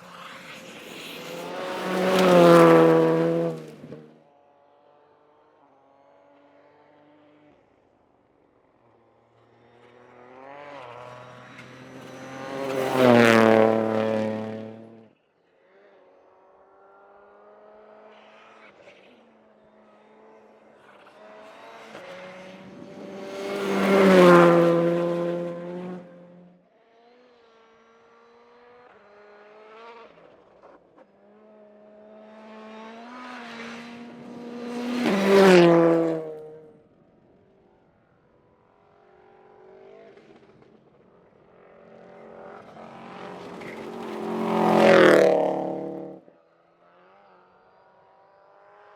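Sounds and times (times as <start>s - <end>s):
rally cars passing at speed: 0.0s - 4.2s, 8.8s - 15.1s, 15.7s - 37.1s, 38.4s - 48.9s.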